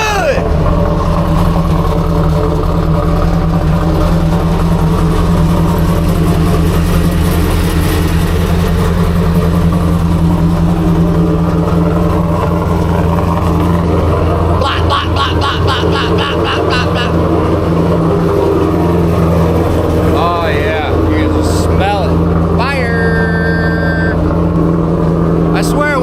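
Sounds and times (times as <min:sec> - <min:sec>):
car engine idling loudly: 0:00.0 - 0:26.0.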